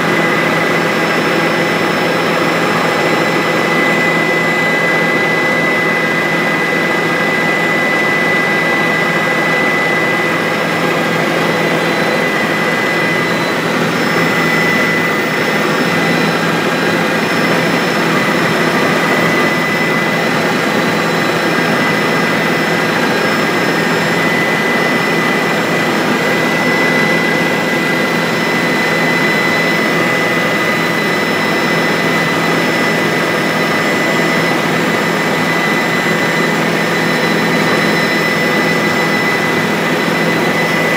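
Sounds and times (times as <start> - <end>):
helicopter turbine and rotor noise: 0.0 - 40.9.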